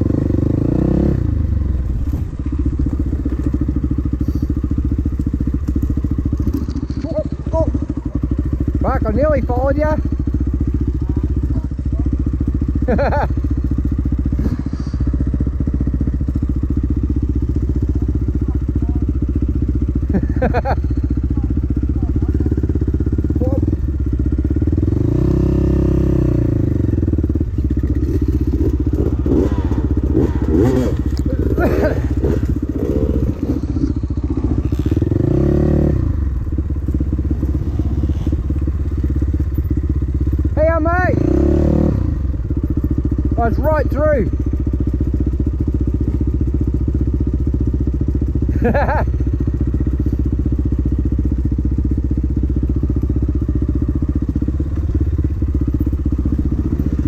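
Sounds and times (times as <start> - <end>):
dirt bike engine revving: 0.0 - 47.7, 52.7 - 57.0.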